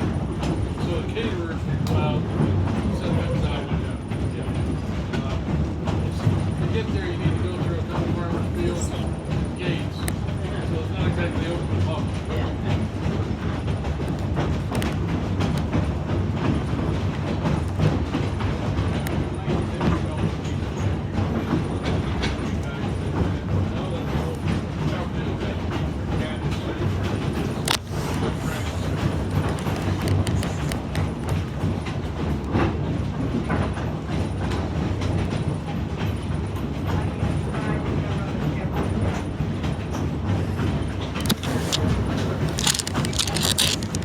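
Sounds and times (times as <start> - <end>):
railroad car rumbling: 0.0 - 44.0
wheels clicking on track: 0.0 - 44.0.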